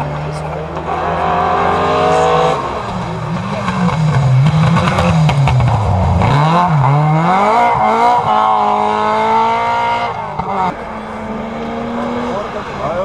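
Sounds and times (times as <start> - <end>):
rally car engine at full throttle: 0.0 - 13.0
second car engine: 0.0 - 13.0.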